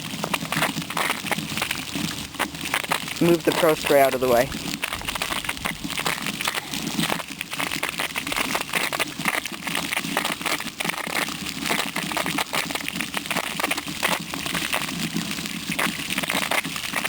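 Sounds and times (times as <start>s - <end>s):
water gushing and splashing on lawn: 0.0s - 17.0s.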